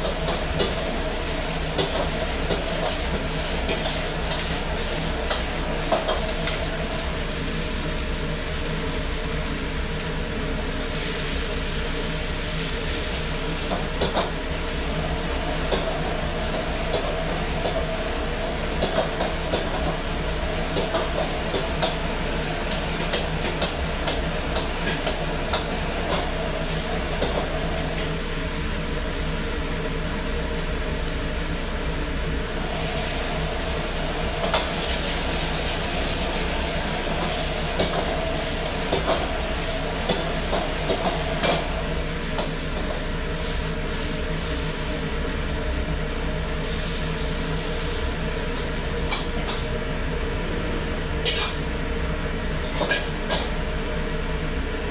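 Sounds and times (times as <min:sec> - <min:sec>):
frying hiss: 0:00.0 - 0:54.9
gas burner roar: 0:00.0 - 0:54.9
range hood fan roar: 0:00.0 - 0:54.9.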